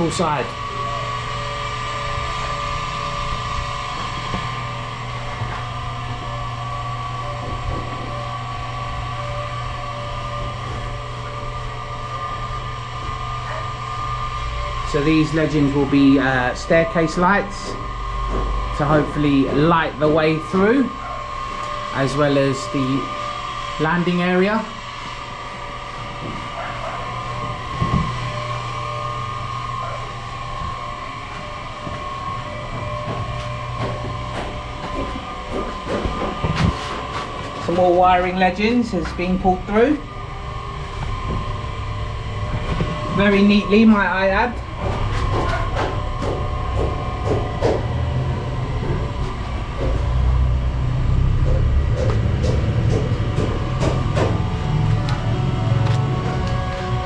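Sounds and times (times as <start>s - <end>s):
motor humming: 0.0s - 57.0s.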